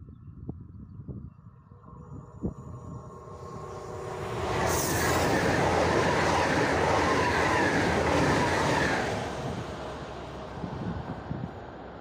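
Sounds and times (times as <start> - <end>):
train passing at speed: 1.7 - 12.0.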